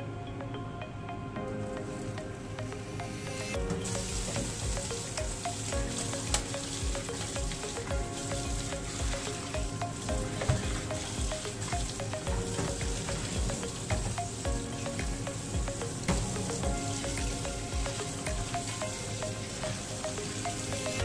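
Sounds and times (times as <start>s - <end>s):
background music with steady beat: 0.0s - 21.0s.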